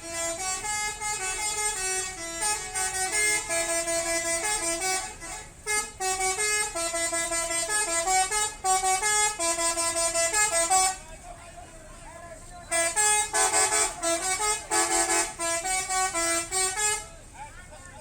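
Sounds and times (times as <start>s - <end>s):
bus musical horn: 0.0s - 11.3s, 12.6s - 17.4s.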